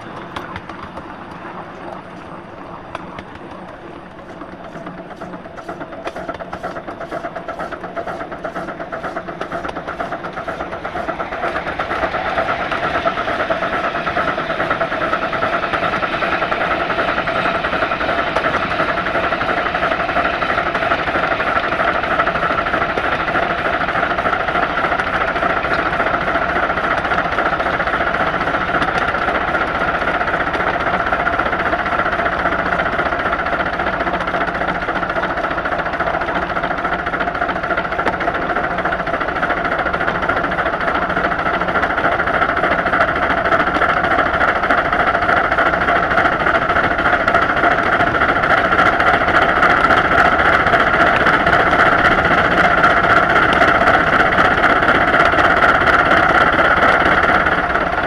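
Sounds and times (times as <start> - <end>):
steam locomotive exhaust beat: 0.0 - 58.0.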